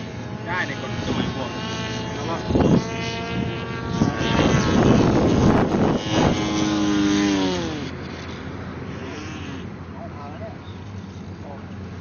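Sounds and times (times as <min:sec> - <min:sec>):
rc airplane motor whining: 0:00.0 - 0:12.0.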